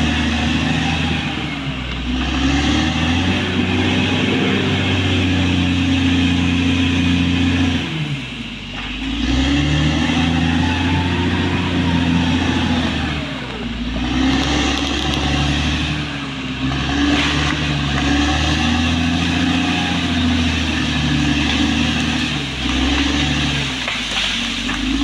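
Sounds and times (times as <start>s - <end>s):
bulldozer diesel engine straining: 0.0s - 25.0s.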